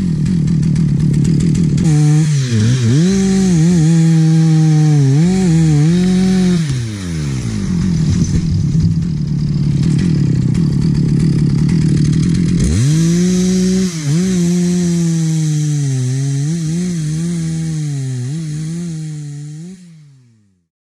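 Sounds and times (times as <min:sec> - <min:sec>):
chainsaw engine revving: 0:00.0 - 0:20.6.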